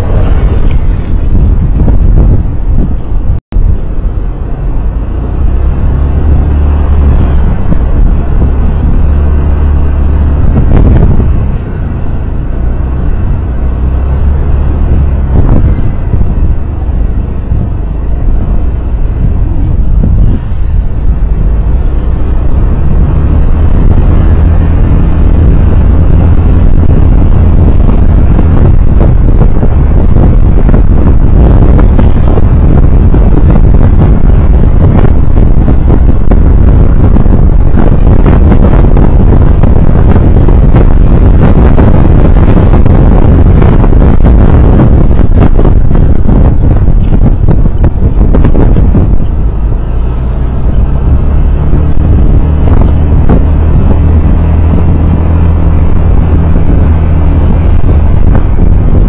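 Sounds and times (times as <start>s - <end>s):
road noise: 0.0s - 59.0s
vehicle engine rumble: 0.0s - 59.0s.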